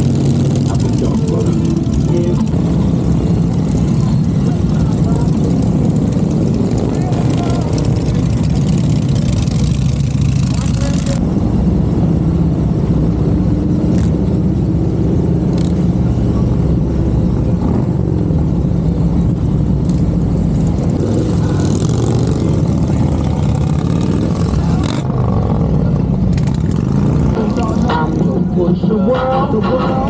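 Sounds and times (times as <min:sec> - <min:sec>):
motorcycle engine rumbling: 0:00.0 - 0:30.0.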